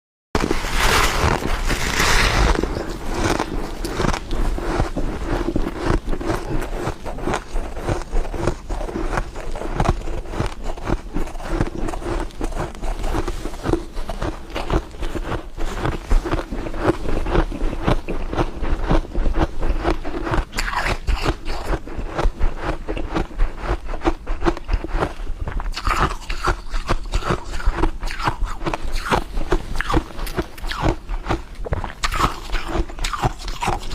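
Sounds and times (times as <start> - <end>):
person crunching ice: 0.4 - 33.9.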